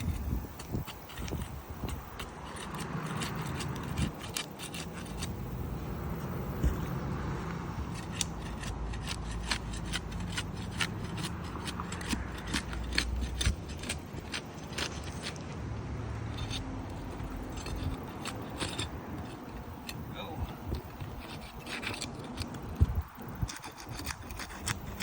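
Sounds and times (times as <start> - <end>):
shingle seals scraping and snapping: 0.0 - 25.0.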